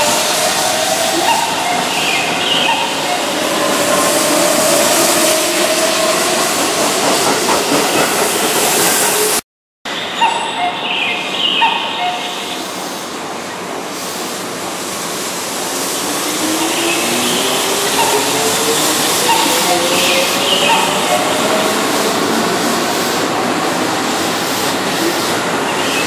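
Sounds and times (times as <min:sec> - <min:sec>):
train wheels rumbling on rail: 0:00.0 - 0:09.4, 0:12.6 - 0:26.0.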